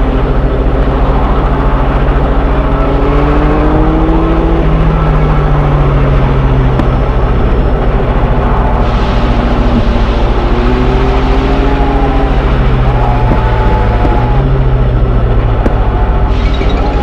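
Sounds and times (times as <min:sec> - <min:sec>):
train engine pulsing rumble: 0:00.0 - 0:17.0.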